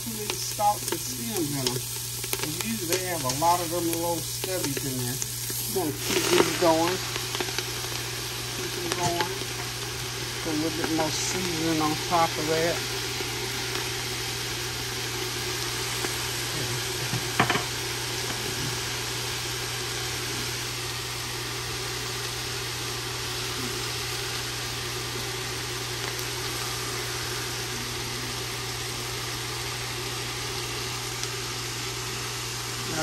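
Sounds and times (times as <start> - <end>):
greens sizzling in oil: 0.0 - 33.0.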